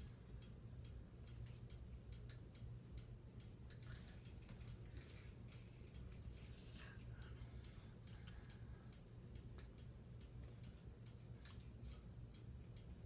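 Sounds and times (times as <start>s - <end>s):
faint rapid ticking: 0.0s - 13.0s.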